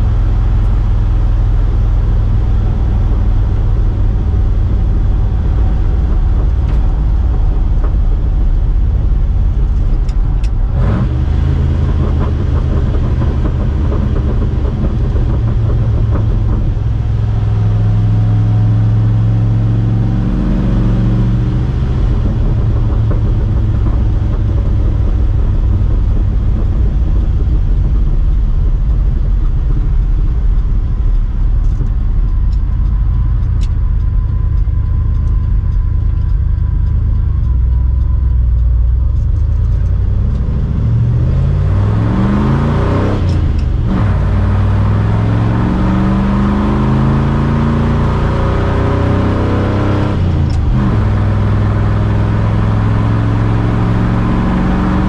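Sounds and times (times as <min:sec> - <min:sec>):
road noise: 0:00.0 - 0:55.0
truck engine and exhaust drone: 0:00.0 - 0:55.0.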